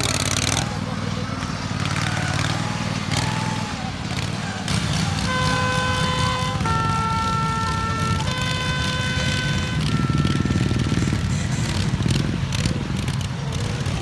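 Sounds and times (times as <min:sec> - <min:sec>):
lawn tractor engines running: 0:00.0 - 0:14.0.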